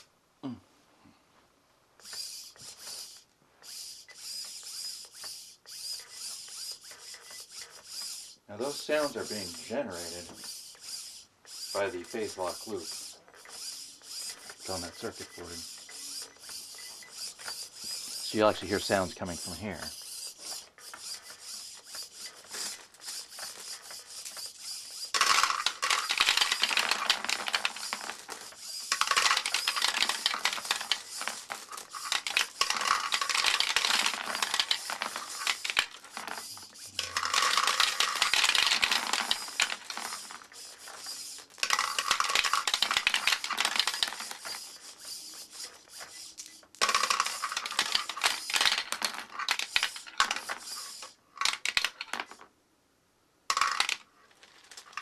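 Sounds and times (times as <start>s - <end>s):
marbles clattering through plastic run: 6.0s - 10.5s, 11.7s - 52.4s, 53.5s - 55.0s.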